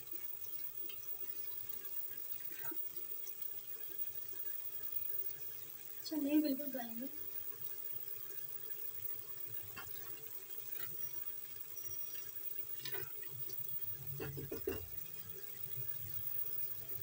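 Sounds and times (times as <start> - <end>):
chickpeas sizzling and bubbling: 0.0 - 17.0.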